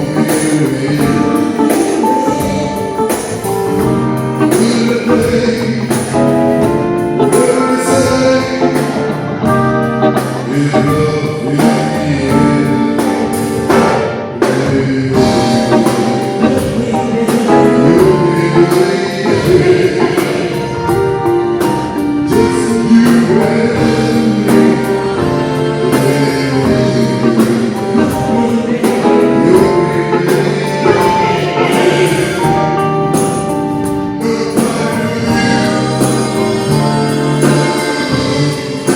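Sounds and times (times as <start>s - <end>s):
drums: 0.0s - 38.9s
live band playing soul blues: 0.0s - 38.9s
person singing: 0.0s - 38.9s.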